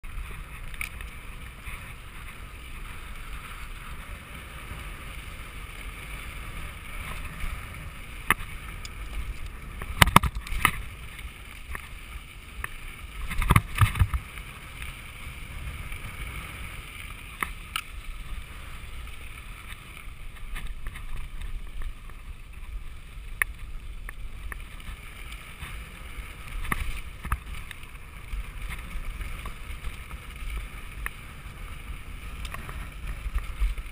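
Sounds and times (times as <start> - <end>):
bike knocking and rattling: 0.0 - 33.9
wind rumble on microphone: 0.0 - 33.9.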